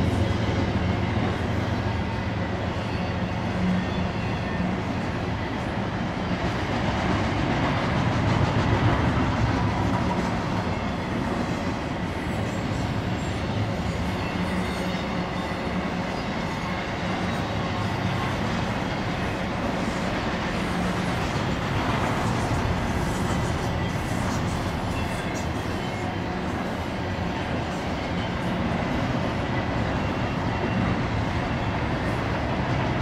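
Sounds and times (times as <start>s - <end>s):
train wheels rolling on rails: 0.0s - 33.0s.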